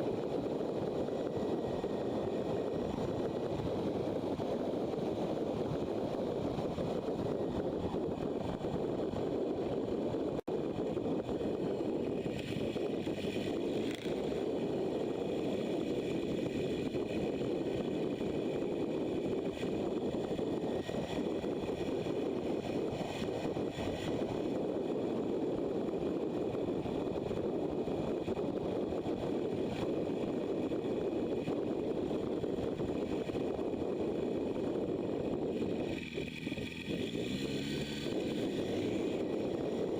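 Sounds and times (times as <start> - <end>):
motorcycle engine: 0.0 - 24.9, 31.6 - 39.9.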